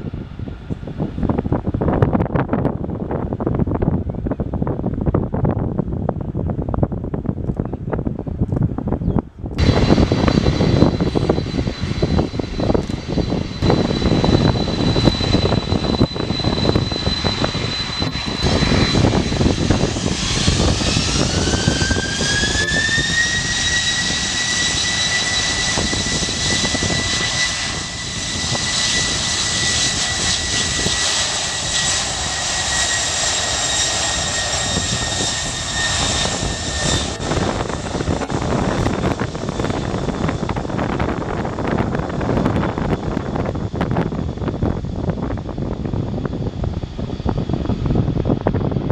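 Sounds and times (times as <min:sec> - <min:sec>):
jet engines rumbling and whining: 0:00.0 - 0:48.9.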